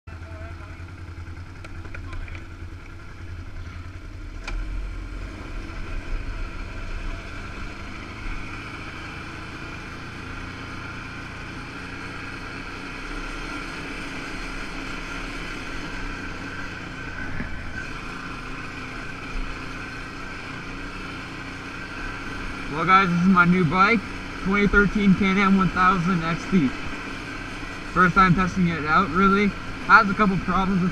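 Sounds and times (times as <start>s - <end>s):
atv engine driving: 0.0s - 30.9s.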